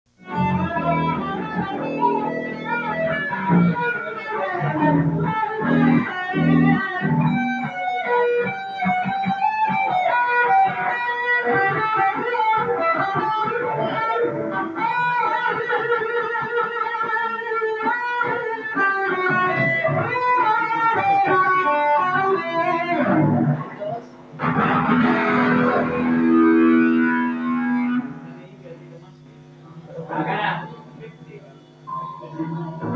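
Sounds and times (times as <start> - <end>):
distorted guitar chord ringing: 0.2 - 32.9
electric guitar single-note runs: 0.2 - 32.9.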